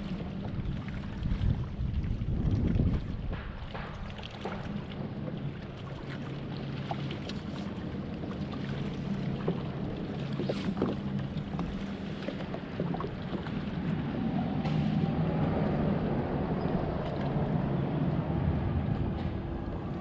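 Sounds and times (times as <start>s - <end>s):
water noise: 0.0s - 20.0s
wind: 0.0s - 20.0s
watercraft engine idling: 3.0s - 20.0s.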